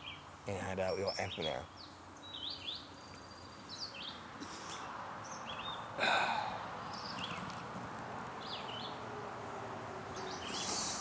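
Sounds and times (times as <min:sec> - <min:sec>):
small birds chirping: 0:00.0 - 0:09.1, 0:10.0 - 0:11.0
outdoor hush: 0:00.0 - 0:11.0.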